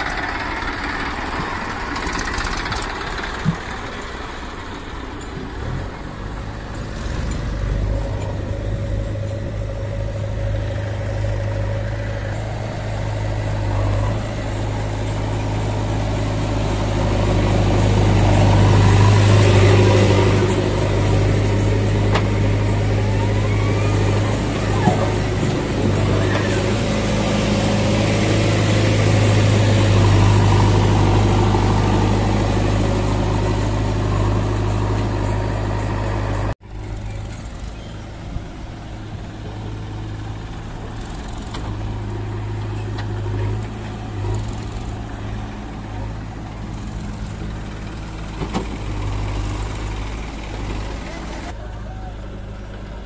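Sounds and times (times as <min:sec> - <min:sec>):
diesel engines droning: 0:00.0 - 0:53.0
tractor engine running: 0:00.0 - 0:53.0.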